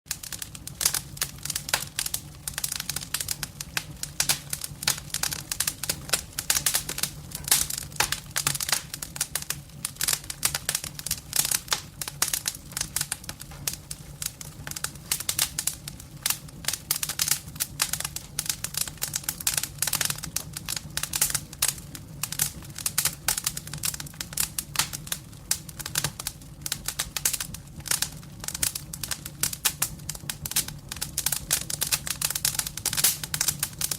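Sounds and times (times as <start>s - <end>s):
firewood crackling: 0.1s - 33.9s.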